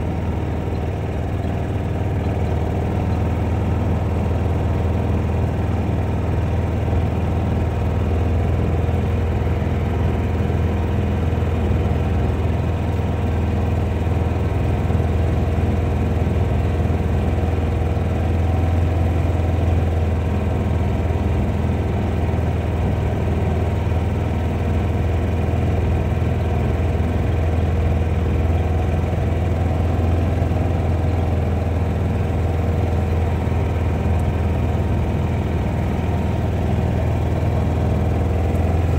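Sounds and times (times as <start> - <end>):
utility vehicle engine drone: 0.0 - 38.9.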